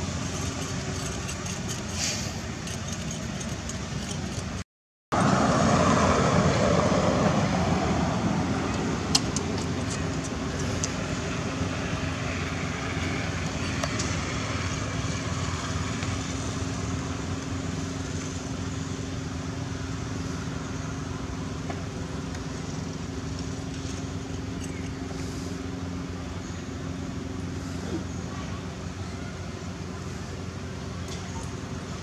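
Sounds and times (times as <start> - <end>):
low mechanical hum and rumble: 0.0 - 32.0.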